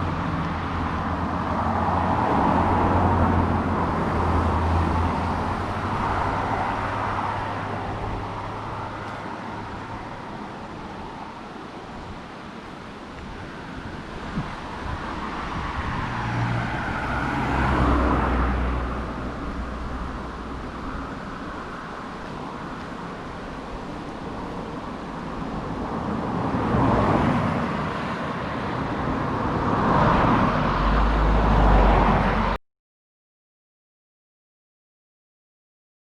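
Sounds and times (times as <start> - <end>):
low engine hum: 0.0 - 32.6
vehicles passing by: 0.0 - 32.6.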